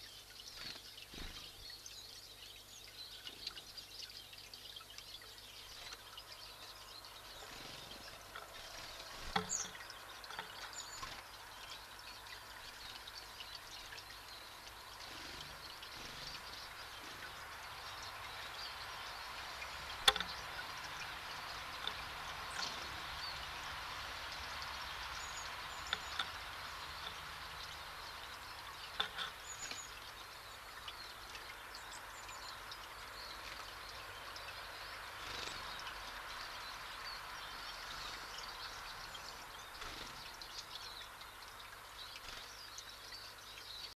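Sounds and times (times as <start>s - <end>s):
steady background hiss: 0.0s - 43.9s
small birds chirping: 0.0s - 44.0s.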